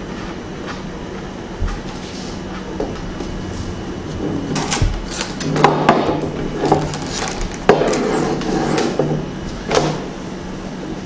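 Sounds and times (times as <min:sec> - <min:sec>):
panels and rods knocking and clicking: 0:00.6 - 0:10.1.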